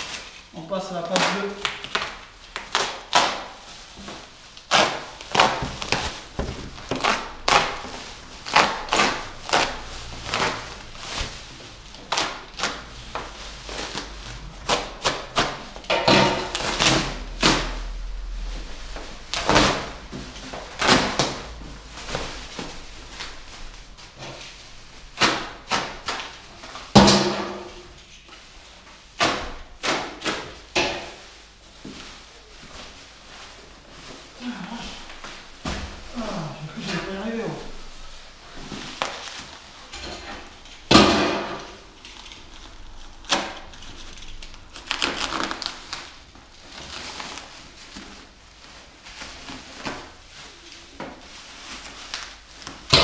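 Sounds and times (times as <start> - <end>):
bubble wrap crackling and rustling: 0.0 - 53.0.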